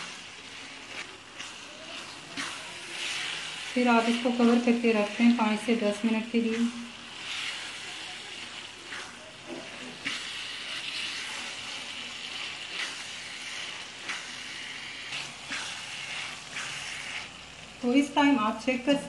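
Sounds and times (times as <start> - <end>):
spatula scraping pan: 0.0 - 18.7
food sizzling in oil: 0.0 - 19.0.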